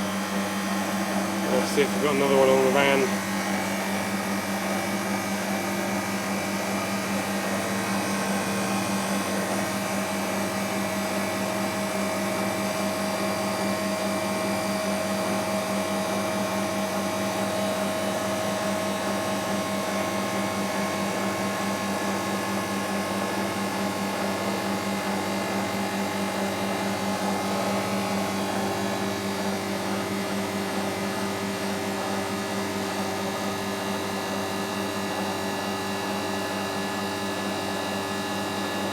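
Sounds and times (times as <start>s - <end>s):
refrigeration fan and motor hum: 0.0s - 38.9s.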